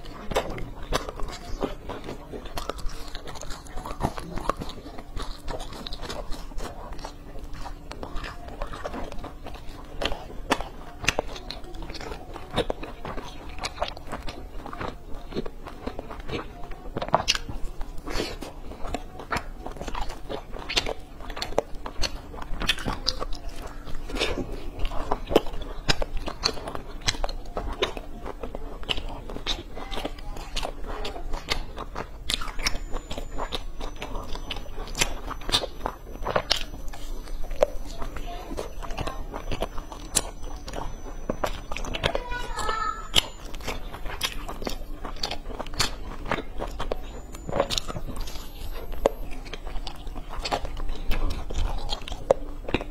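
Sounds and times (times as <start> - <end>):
crunchy food chewing: 0.0 - 52.9.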